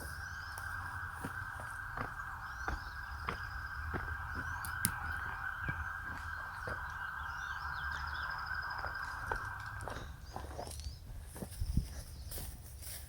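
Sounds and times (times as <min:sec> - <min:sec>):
faint birds chirping: 0:00.0 - 0:12.6
footsteps crunching on debris: 0:00.0 - 0:13.0.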